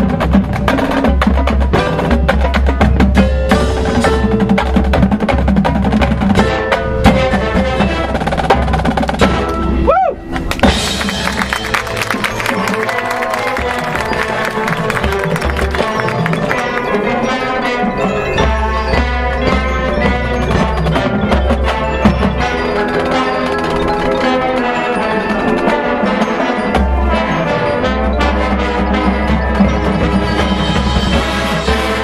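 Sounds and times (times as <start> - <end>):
bells and mallet percussion: 0.0 - 32.0
marching band playing: 0.0 - 32.0.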